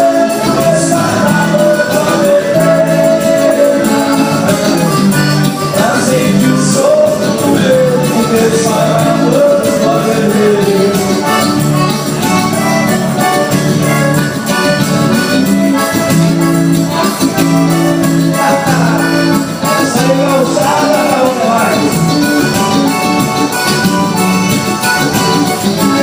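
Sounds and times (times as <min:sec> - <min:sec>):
band music with steady beat: 0:00.0 - 0:26.0.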